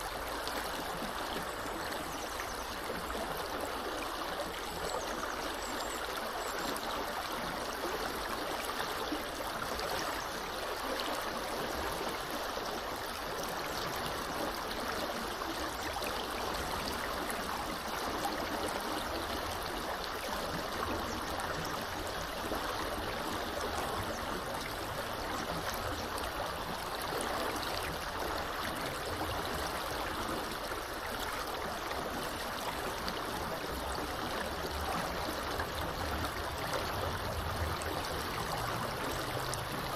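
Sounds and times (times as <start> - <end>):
river water rushing: 7.0 - 39.9.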